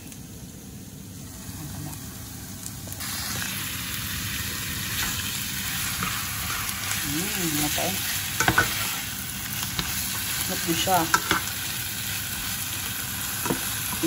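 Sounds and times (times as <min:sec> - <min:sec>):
chicken sizzling in a pan: 0:00.0 - 0:14.0.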